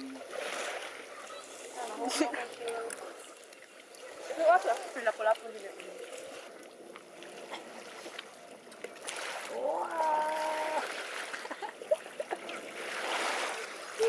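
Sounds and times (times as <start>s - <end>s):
faint splashing water: 0.0s - 14.0s.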